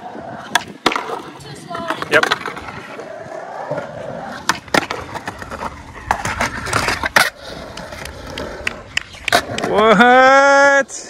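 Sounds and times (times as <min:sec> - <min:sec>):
skateboard wheels rolling on concrete: 0:00.0 - 0:11.0
skateboard clacks: 0:00.3 - 0:10.3.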